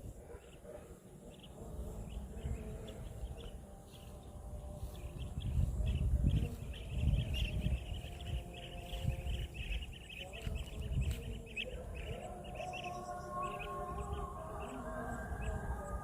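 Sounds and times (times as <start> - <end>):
high chirping of small creatures: 0.0 - 16.0.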